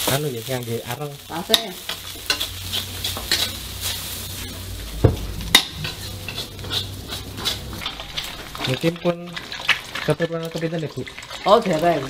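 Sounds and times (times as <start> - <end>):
frying sizzle: 0.0 - 12.0
ladle scraping wok: 1.5 - 11.8.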